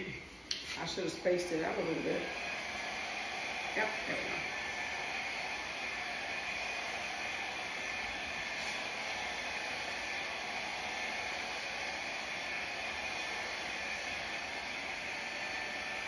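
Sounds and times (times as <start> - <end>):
hair dryer blowing: 0.5 - 16.0.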